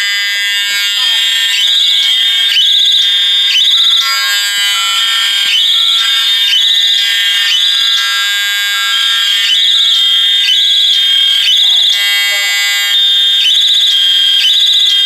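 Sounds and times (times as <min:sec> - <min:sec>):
steady alarm tones: 0:00.0 - 0:15.0
warbling electronic alarm tone: 0:00.0 - 0:15.0.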